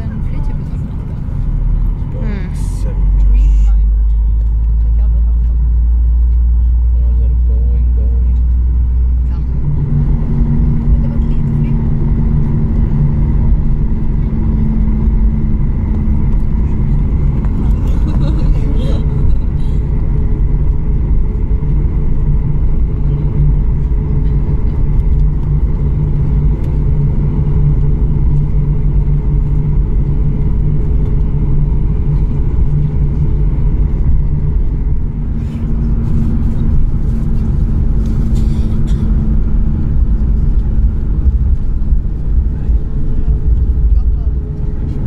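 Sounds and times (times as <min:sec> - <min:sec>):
aircraft engine low rumble: 0:00.0 - 0:45.0
low hum: 0:00.0 - 0:45.0.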